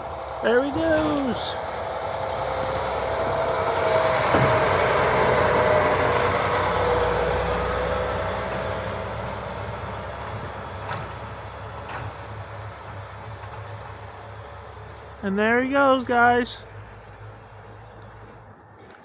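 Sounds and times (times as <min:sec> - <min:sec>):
snowplow truck driving past: 0:00.0 - 0:19.0.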